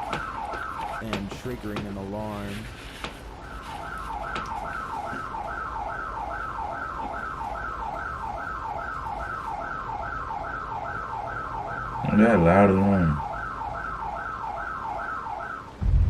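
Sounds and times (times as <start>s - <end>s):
electronic alarm siren whooping: 0.0s - 2.6s, 3.4s - 15.9s.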